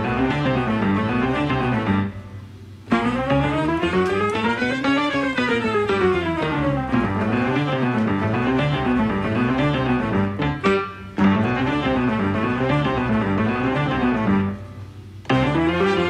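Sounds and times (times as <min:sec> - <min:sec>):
instrumental music: 0:00.0 - 0:16.0.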